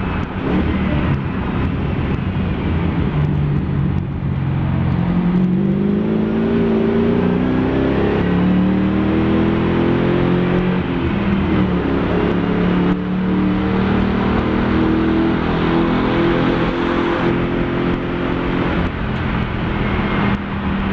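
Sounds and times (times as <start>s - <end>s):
race car engine running hard: 0.0s - 20.9s.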